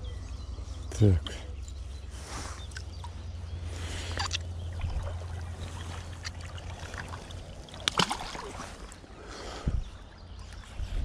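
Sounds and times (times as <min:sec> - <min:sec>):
river water trickling and sloshing: 0:01.6 - 0:11.0.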